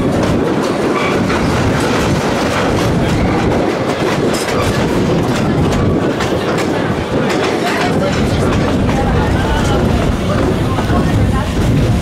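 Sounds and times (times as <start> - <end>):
train cars rolling rumble: 0.0 - 12.0
wheels clicking over rail joints: 0.0 - 12.0.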